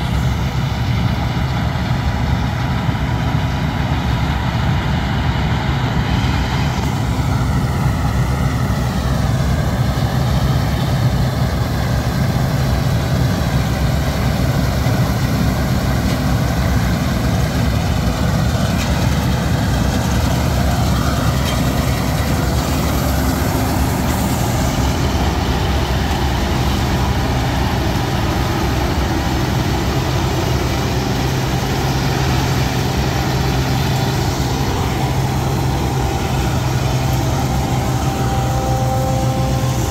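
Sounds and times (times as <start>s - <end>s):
combine harvester engine running: 0.0s - 39.9s
machinery whir: 0.0s - 39.9s.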